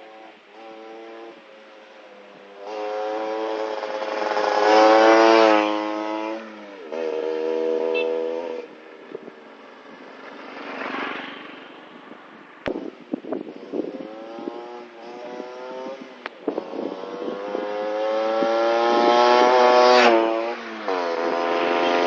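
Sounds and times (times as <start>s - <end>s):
motorcycle accelerating: 0.0s - 22.0s.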